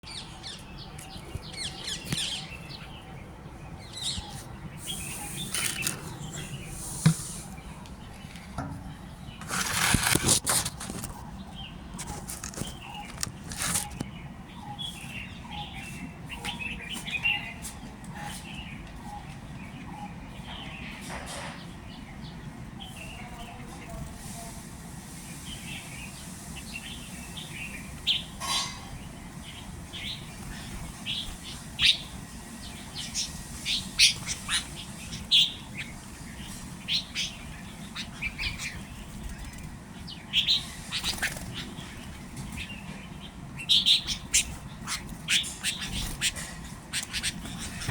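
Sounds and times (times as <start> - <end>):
birds chirping and squawking: 0.0 - 23.7, 25.5 - 47.9.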